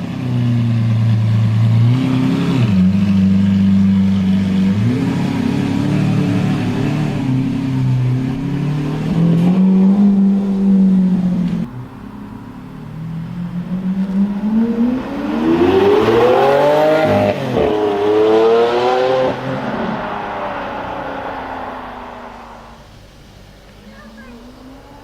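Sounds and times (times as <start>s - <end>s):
sports car engine revving: 0.0s - 23.0s.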